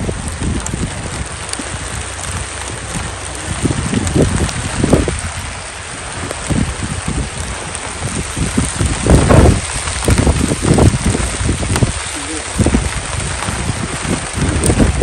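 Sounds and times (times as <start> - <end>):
low thumps on microphone: 0.0 - 12.0, 12.6 - 15.0
rain falling: 0.0 - 15.0.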